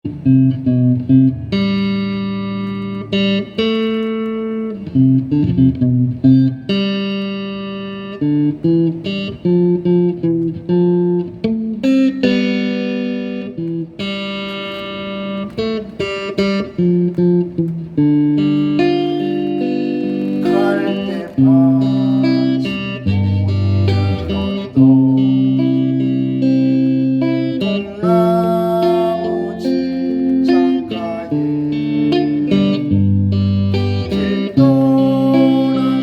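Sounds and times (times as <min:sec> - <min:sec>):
plucked guitar melody: 0:00.0 - 0:36.0.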